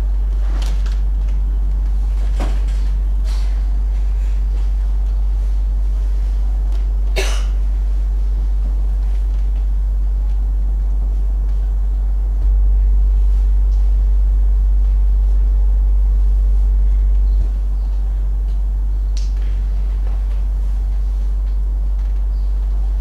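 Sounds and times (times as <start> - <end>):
deep sine wave drone: 0.0 - 23.0.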